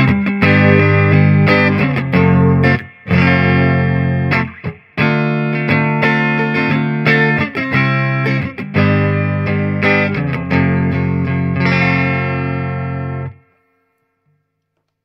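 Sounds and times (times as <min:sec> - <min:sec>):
clean electric guitar chords strummed: 0:00.0 - 0:13.4.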